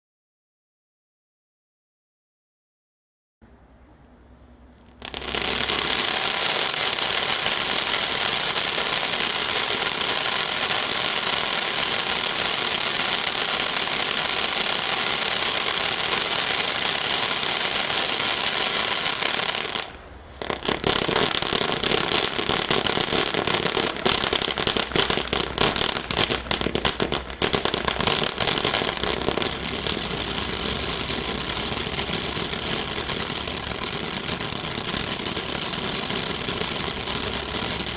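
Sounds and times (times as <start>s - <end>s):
firework crackling cracks: 4.8s - 37.9s
firework rapid reports: 4.9s - 37.9s.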